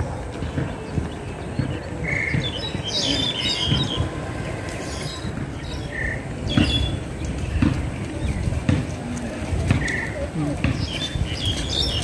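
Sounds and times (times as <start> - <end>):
birds chirping: 0.0 - 12.0
low rumbling background noise: 0.0 - 12.0.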